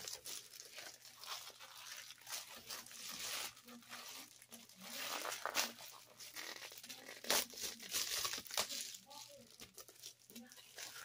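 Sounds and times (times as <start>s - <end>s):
package tearing: 0.0s - 11.0s
packaging crinkling: 0.0s - 11.0s.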